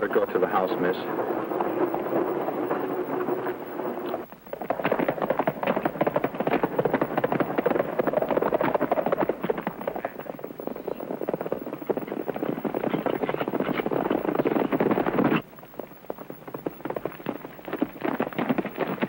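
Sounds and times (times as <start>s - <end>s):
horse hoofbeats galloping: 0.0s - 19.0s.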